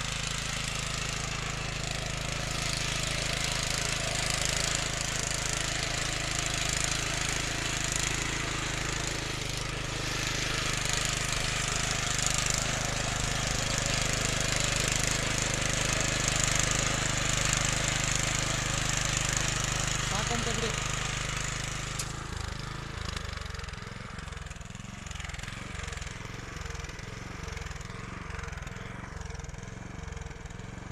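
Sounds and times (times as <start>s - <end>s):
tines churning stony soil: 0.0s - 28.2s
tiller engine running: 0.0s - 30.9s.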